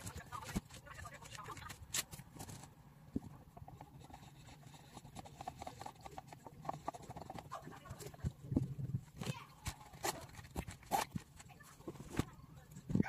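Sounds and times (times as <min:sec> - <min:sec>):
hands handling notebook and cup: 0:00.0 - 0:13.0.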